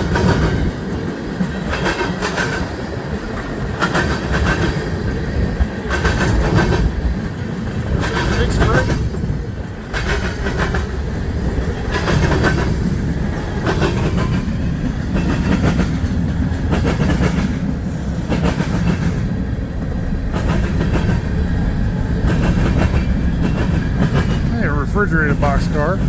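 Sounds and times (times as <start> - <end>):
wheels clicking over rail joints: 0.0 - 25.0
freight train rumbling past: 0.0 - 26.0.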